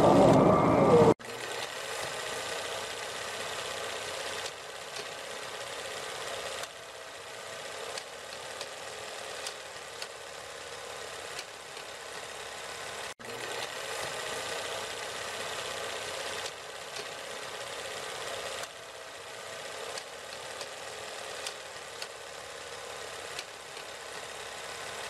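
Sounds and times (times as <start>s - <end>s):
faint mechanical whirr: 0.0s - 25.0s.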